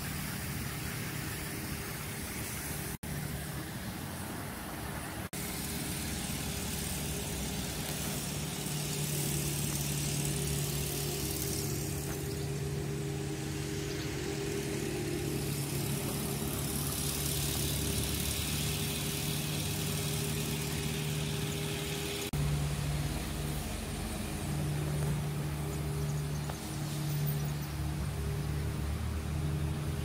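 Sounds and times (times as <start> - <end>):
road and wind hiss: 0.0 - 30.0
vehicle engine running: 0.0 - 30.0.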